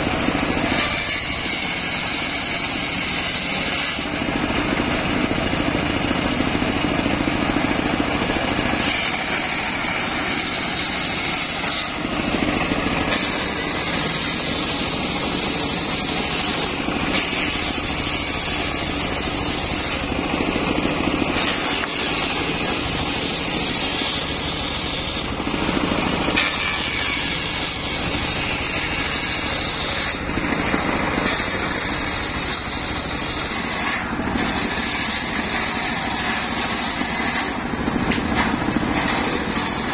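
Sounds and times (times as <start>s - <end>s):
circular saw running: 0.0s - 39.9s
saw blade cutting whine: 0.0s - 39.9s.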